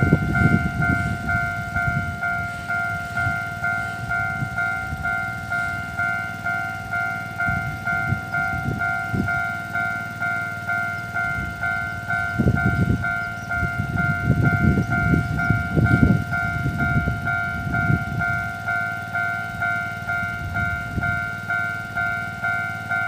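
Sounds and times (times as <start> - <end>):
level crossing warning bell: 0.0 - 23.0.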